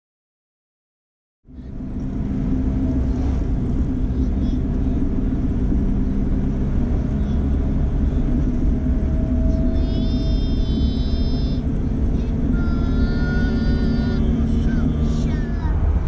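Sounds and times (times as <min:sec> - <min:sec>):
road rumble: 0:01.4 - 0:16.0
car engine droning: 0:01.5 - 0:16.0.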